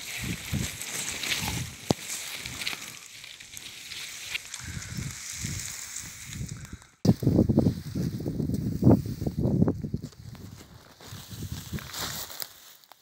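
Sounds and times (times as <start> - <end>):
leaves rustling against microphone: 0.0 - 13.0.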